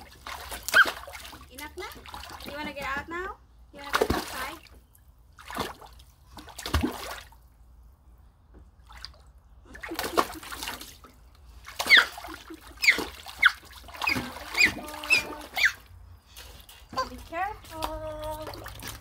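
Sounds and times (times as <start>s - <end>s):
water splashing in pool: 0.0s - 3.0s, 3.8s - 7.5s, 8.8s - 16.0s, 17.0s - 19.0s.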